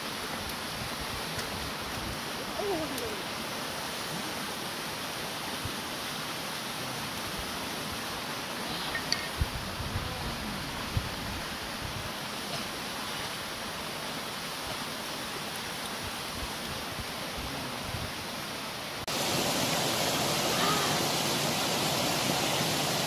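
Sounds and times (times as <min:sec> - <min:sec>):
stream and small waterfall rushing: 0:00.0 - 0:23.0.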